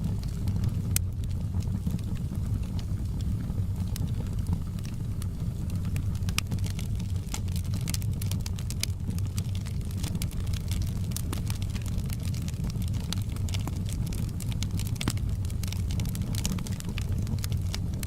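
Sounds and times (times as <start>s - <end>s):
fire burning with low rumble: 0.0s - 18.0s
fire crackling: 0.0s - 18.0s.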